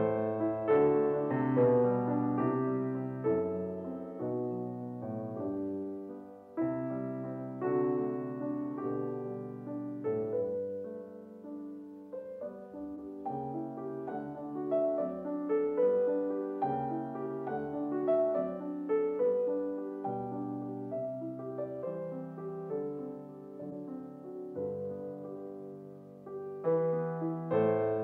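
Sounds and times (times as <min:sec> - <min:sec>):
gentle piano piece: 0:00.0 - 0:28.0.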